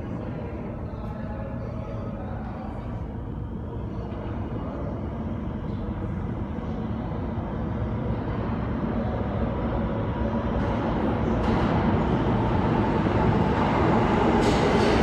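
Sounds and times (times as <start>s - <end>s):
subway train rumbling in tunnel: 0.0s - 15.0s.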